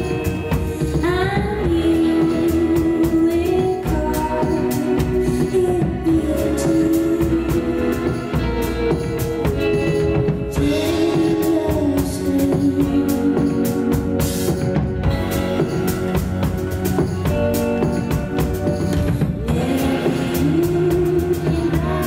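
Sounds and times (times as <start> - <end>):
drum kit beat: 0.0 - 22.0
live band music: 0.0 - 22.0.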